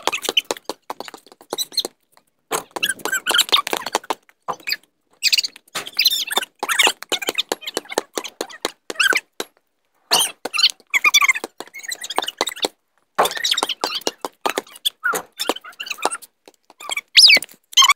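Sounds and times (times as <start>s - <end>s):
shoes squeaking on concrete: 0.0s - 17.9s.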